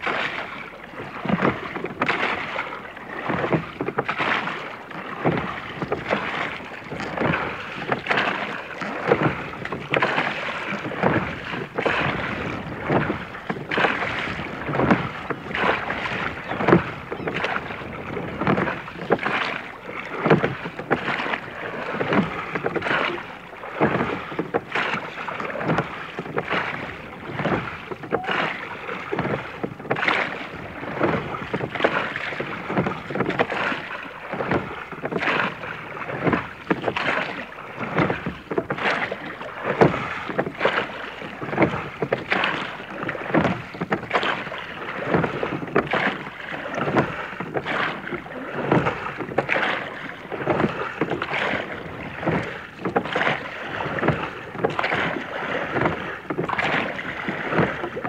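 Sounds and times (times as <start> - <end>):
oars knocking and splashing: 0.0 - 58.0
water noise: 0.0 - 58.0.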